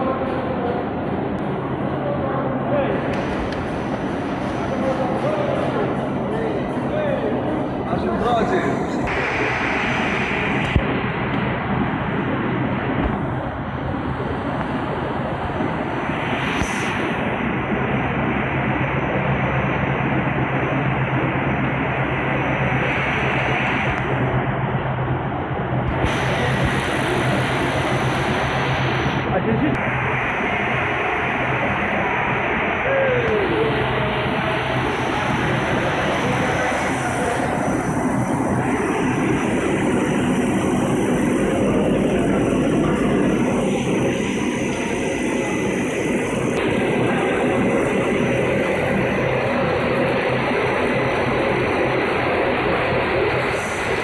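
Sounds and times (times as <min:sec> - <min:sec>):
extruder machine noise: 0:00.0 - 0:54.0
low hum: 0:00.0 - 0:54.0.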